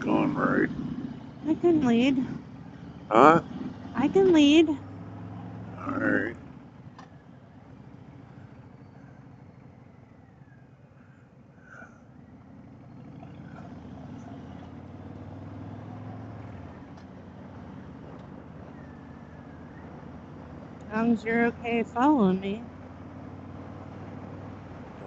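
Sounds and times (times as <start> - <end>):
motorcycle engine running: 0.0 - 25.0
road and wind noise: 0.0 - 25.0.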